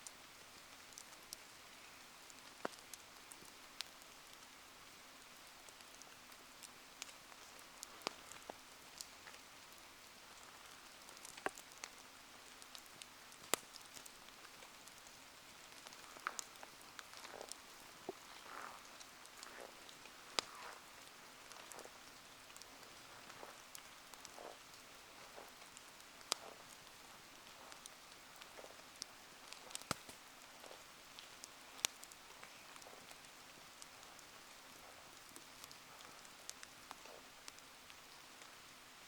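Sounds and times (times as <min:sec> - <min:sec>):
sharp ticks and pops: 0:00.0 - 0:38.5
rain falling: 0:00.0 - 0:39.0.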